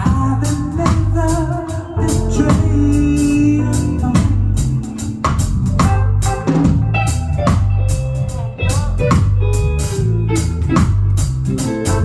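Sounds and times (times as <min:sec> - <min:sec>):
bass guitar: 0:00.0 - 0:12.0
drum kit steady beat: 0:00.0 - 0:12.0
electric guitar: 0:01.6 - 0:12.0.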